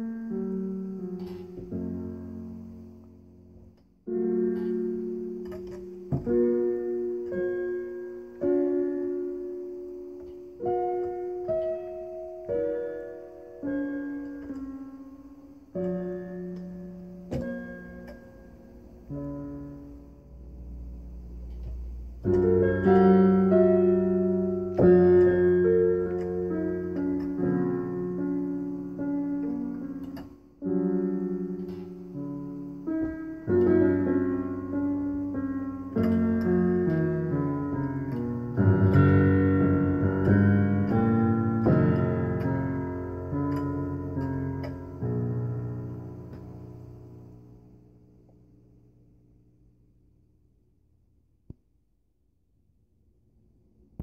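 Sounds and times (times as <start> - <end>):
slow piano chords: 0.0 - 50.2.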